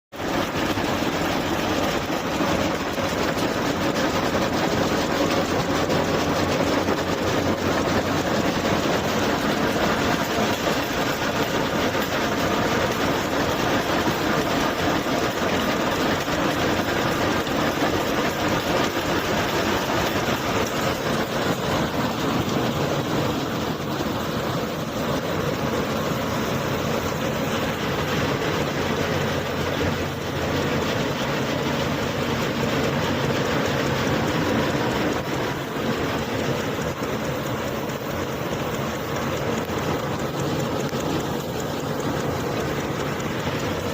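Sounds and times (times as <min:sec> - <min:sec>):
thresher machinery clatter: 0:00.1 - 0:43.9
diesel engine running: 0:00.2 - 0:43.9.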